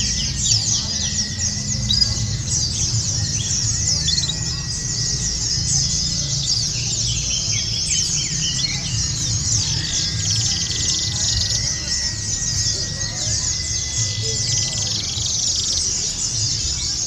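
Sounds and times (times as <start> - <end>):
birds twittering in chorus: 0.0 - 17.0
low background rumble: 0.0 - 17.0.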